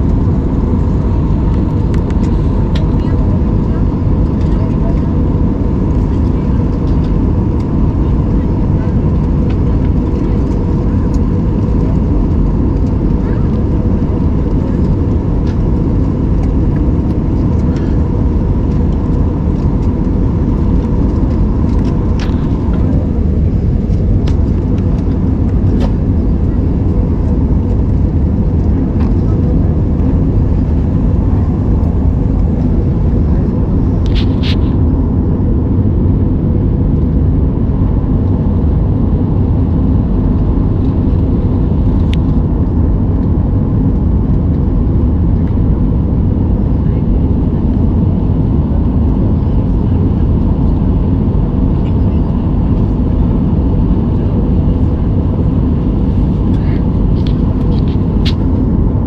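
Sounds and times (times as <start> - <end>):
airliner engines roaring: 0.0 - 59.0.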